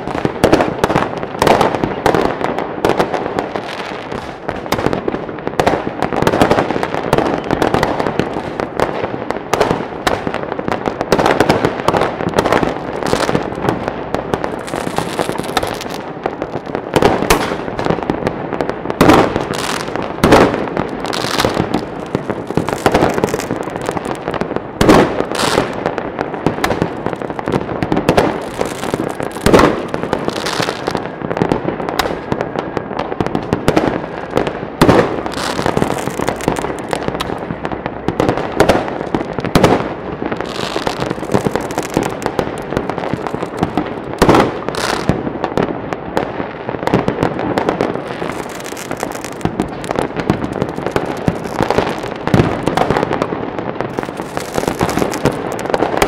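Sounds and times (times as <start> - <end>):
fireworks crackling: 0.0 - 56.0
fireworks loud bangs: 0.0 - 56.0.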